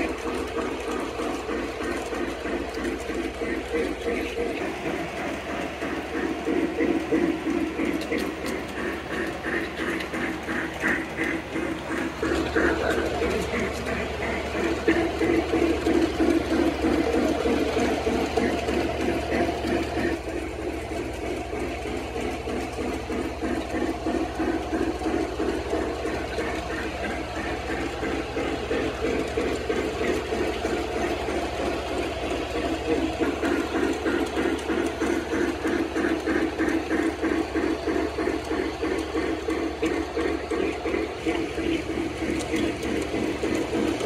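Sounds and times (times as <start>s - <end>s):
model train clatter: 0.0s - 44.0s.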